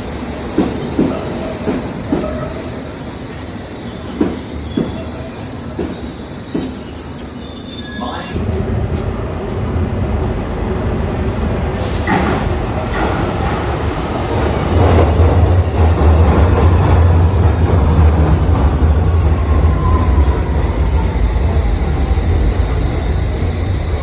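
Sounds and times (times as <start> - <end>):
underground train rumble: 0.0 - 24.0.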